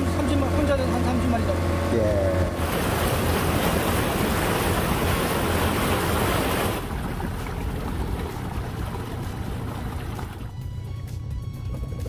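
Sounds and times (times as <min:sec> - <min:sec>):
rush of wind and water: 0:00.0 - 0:10.6
boat motor rumble: 0:00.0 - 0:12.0.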